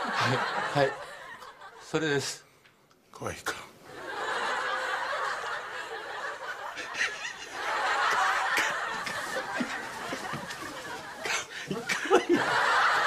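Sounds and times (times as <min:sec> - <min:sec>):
audience laughing: 0:00.0 - 0:02.0, 0:03.9 - 0:13.0.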